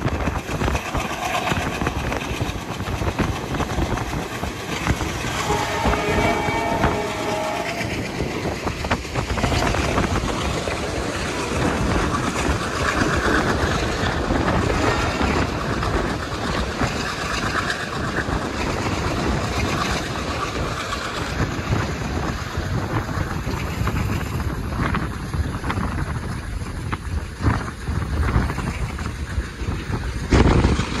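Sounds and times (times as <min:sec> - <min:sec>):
train wheels rumbling on track: 0:00.0 - 0:31.0
wind on microphone: 0:00.0 - 0:31.0.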